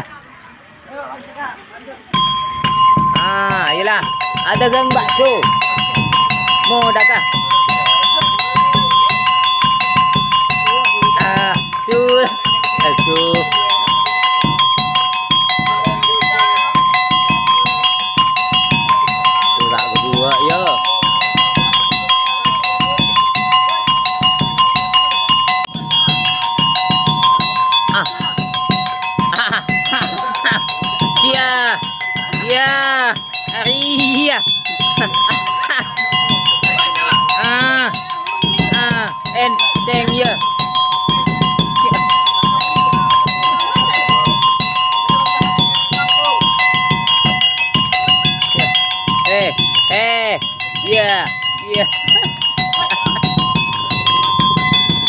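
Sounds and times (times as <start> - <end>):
ringing mallet notes on metal bars: 0.9 - 55.0
low hand drum beats: 2.1 - 55.0
small metal gongs struck: 2.1 - 55.0.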